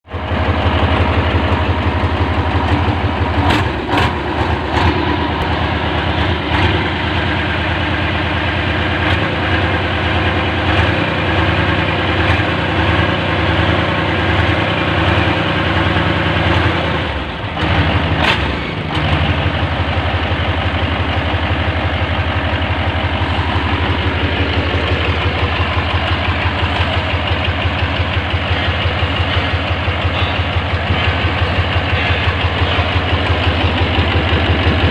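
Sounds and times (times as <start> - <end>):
loud diesel engine running: 0.0 - 34.9.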